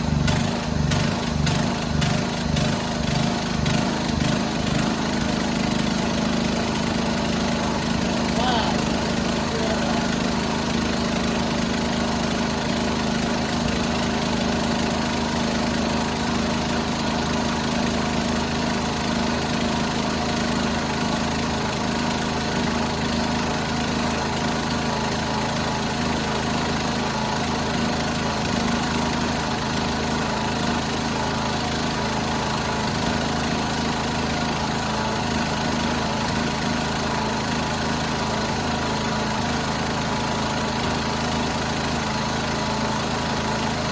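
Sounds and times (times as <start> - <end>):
lawn tractor engine idling: 0.0 - 43.9.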